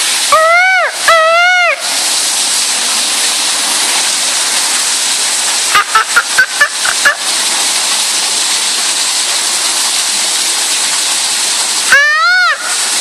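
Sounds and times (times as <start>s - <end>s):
falling water hissing: 0.0s - 13.0s.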